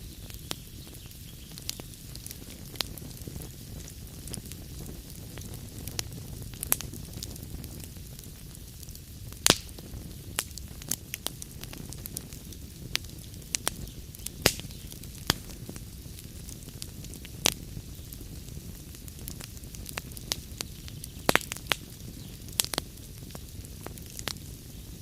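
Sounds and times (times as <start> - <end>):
low rumble of fire: 0.0 - 25.0
wood fire crackling and popping: 0.0 - 25.0.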